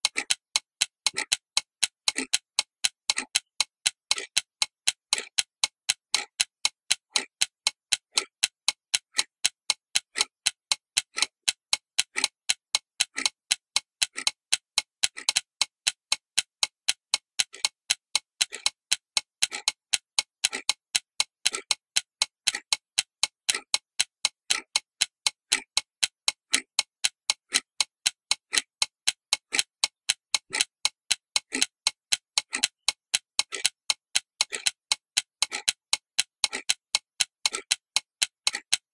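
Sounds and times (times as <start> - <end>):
clock-like ticking: 0.0 - 38.9.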